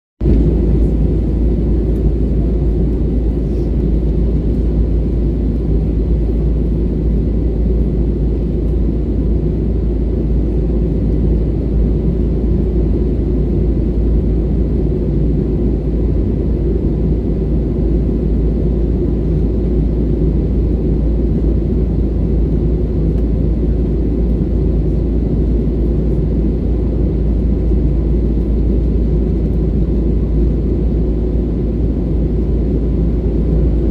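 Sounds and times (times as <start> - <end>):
aircraft cabin engine rumble: 0.2 - 33.9.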